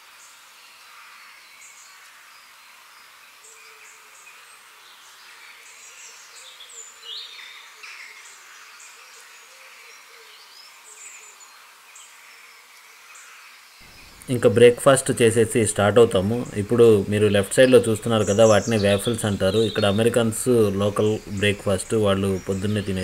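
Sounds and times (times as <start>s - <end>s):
faint outdoor hiss: 0.0s - 23.0s
small birds chirping: 0.2s - 23.0s.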